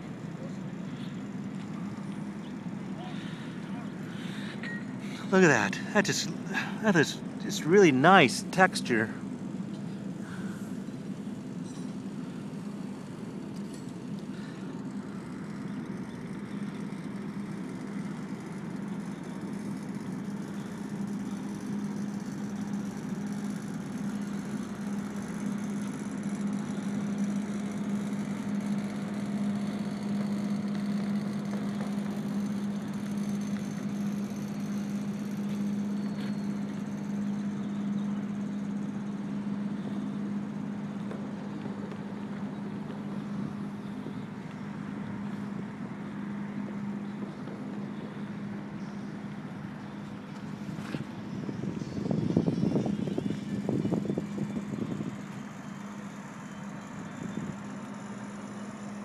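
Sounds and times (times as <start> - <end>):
steady machine drone: 0.0 - 59.0.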